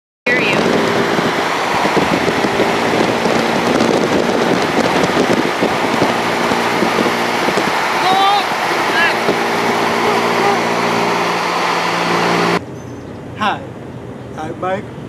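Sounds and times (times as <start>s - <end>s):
motorcycle engines running: 0.3s - 15.0s.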